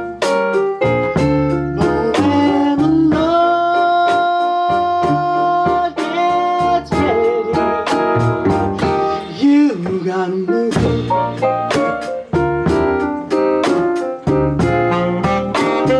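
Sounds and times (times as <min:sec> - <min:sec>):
blues piano: 0:00.0 - 0:15.9.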